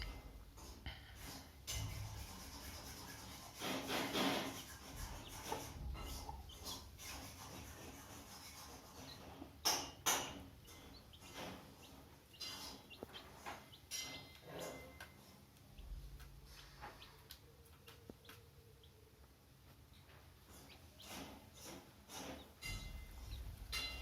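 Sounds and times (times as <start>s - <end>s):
chickens rustling and scratching: 0.0s - 18.6s, 19.5s - 24.0s.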